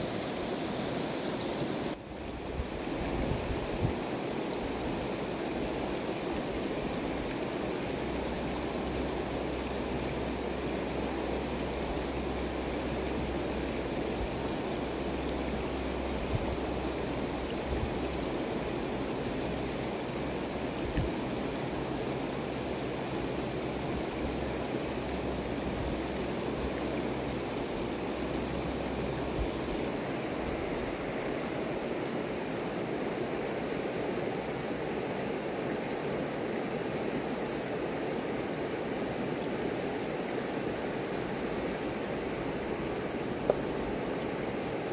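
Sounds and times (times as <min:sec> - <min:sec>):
river rushing over stones: 0:00.0 - 0:44.9.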